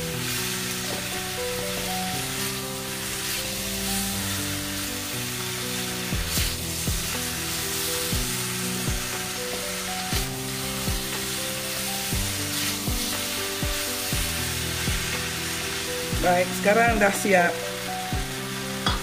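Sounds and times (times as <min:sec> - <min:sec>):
background music with kick drum: 0:00.0 - 0:19.0
chicken sizzling in a wok: 0:00.0 - 0:19.0.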